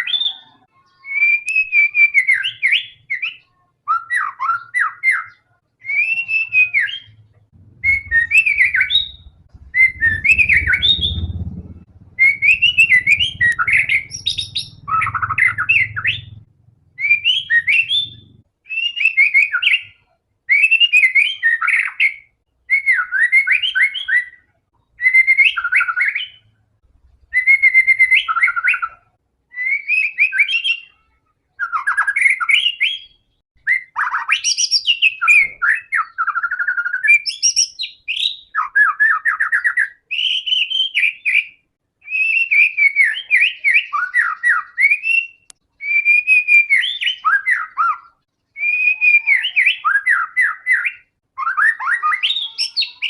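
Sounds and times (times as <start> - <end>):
songbird whistling song: 0.0 - 26.5, 27.3 - 31.0, 31.6 - 53.0.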